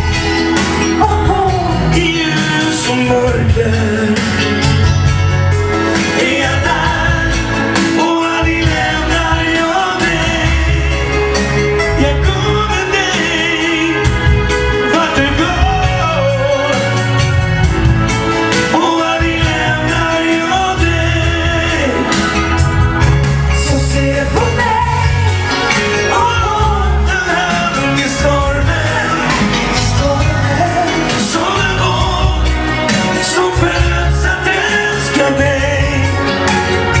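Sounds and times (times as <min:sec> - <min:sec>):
backing track with heavy bass: 0:00.0 - 0:37.0
man singing pop song: 0:00.0 - 0:37.0.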